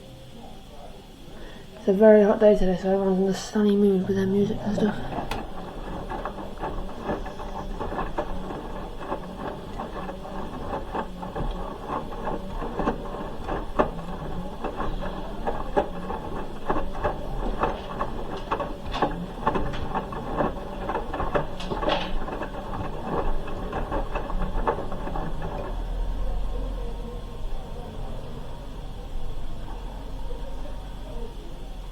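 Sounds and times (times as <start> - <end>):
low motor hum: 0.0 - 31.9
washing machine drum clicks and swishes: 2.2 - 31.1.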